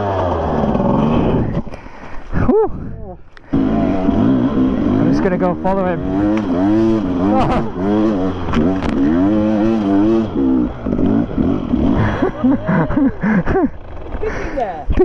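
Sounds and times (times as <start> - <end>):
motorcycle engine revving: 0.0 - 1.8, 3.4 - 15.0.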